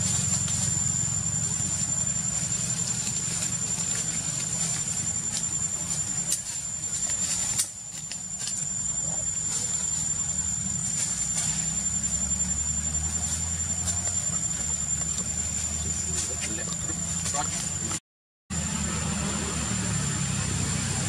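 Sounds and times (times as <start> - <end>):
low background hum: 0.0 - 18.0
high-pitched insect drone: 0.0 - 20.7.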